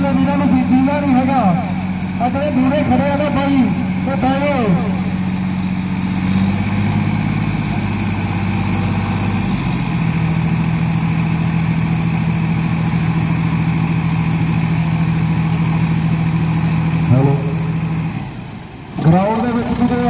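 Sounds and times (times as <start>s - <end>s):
diesel tractor engines running hard: 0.0s - 20.0s.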